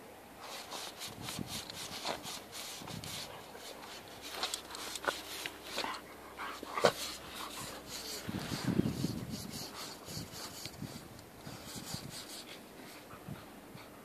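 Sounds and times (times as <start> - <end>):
dog paws scraping sand: 0.4 - 13.1.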